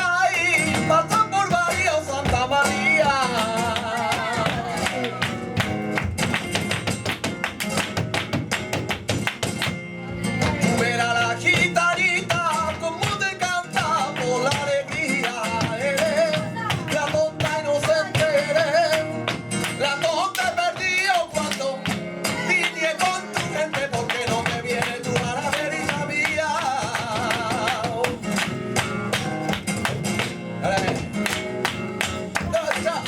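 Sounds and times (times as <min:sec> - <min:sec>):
flamenco guitar: 0:00.0 - 0:33.0
man singing flamenco: 0:00.0 - 0:33.0.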